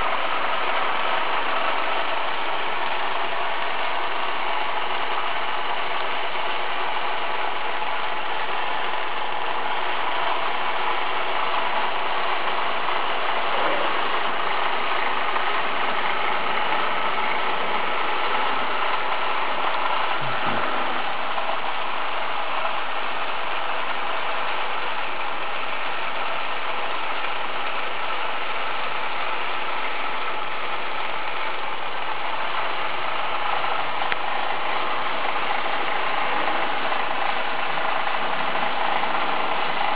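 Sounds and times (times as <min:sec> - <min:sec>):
model ride mechanical whirr: 0:00.0 - 0:39.9.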